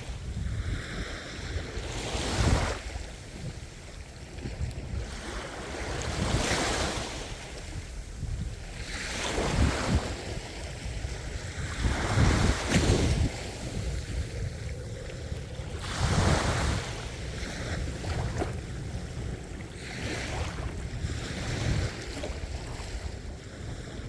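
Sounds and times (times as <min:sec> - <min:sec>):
sea waves breaking: 0:00.0 - 0:24.0
wind on microphone: 0:00.0 - 0:24.0.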